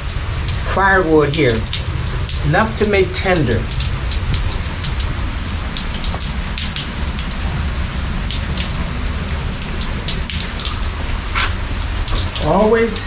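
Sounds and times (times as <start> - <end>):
rain falling: 0.0 - 13.0
raindrops ticking: 0.0 - 13.0.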